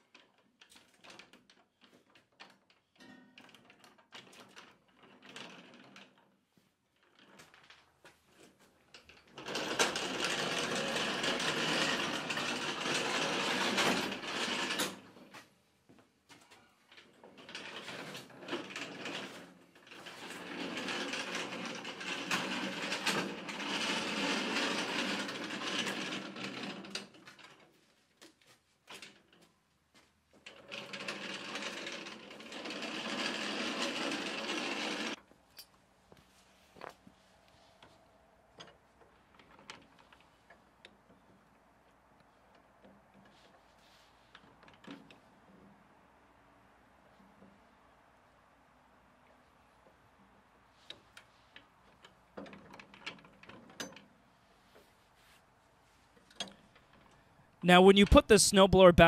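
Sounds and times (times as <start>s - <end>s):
dolly casters rolling on concrete: 0.0s - 15.4s, 16.3s - 29.5s, 30.3s - 35.7s, 36.3s - 48.4s, 49.6s - 57.2s.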